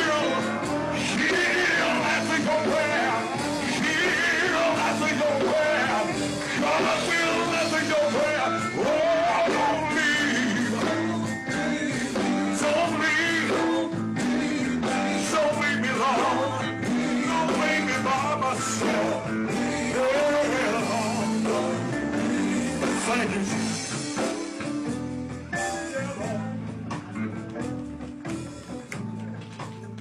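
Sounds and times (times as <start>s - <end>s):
lead voice singing: 0.0s - 28.9s
band playing sustained chords: 0.0s - 29.6s.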